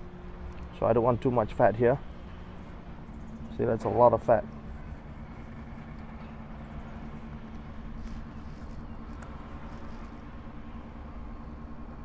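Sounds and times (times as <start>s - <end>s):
constant hum: 0.0s - 12.0s
low background rumble: 0.0s - 12.0s.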